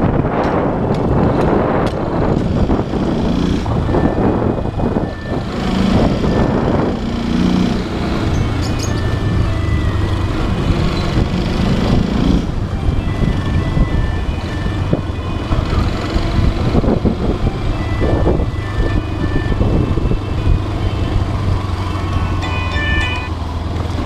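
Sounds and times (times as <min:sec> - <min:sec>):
motorcycle engine running: 0:00.0 - 0:24.0
road and traffic noise: 0:00.0 - 0:24.0.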